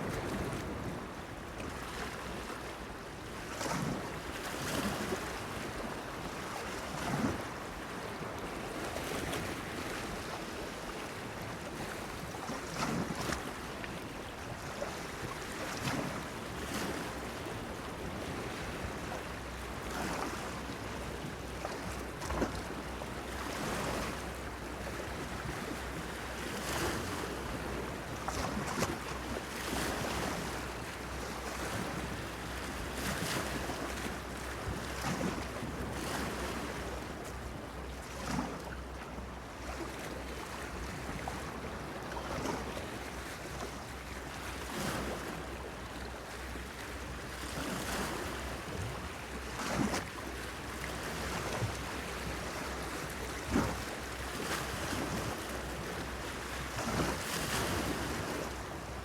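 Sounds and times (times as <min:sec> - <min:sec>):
waves splashing against a pier: 0:03.2 - 0:59.0.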